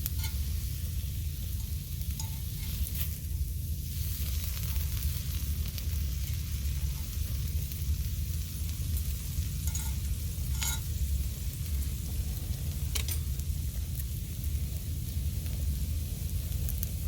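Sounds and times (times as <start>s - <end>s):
faint crackles: 0.0s - 17.0s
food sizzling as it fries: 0.0s - 17.0s
low rumble: 0.0s - 17.0s.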